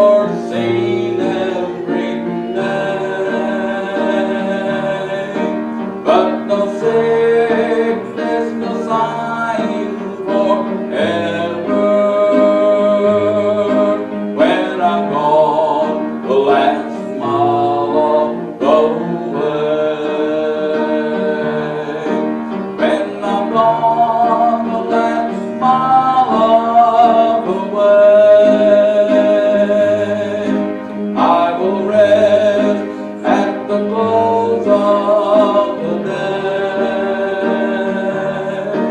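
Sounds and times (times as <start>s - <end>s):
hymn singing with accompaniment: 0.0s - 38.9s.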